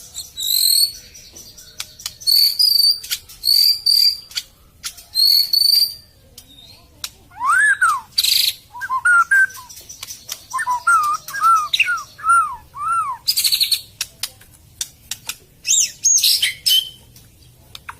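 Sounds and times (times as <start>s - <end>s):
bird whistling song: 0.0s - 13.9s, 15.6s - 17.1s.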